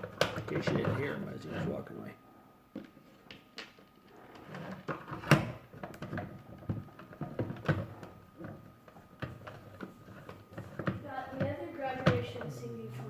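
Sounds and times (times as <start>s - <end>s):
objects being moved and set down: 0.0s - 1.7s, 2.7s - 12.5s.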